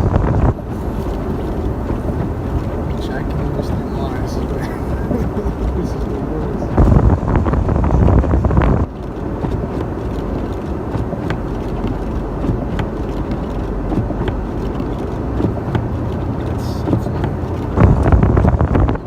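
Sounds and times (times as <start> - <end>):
vehicle driving through snow: 0.0 - 19.0.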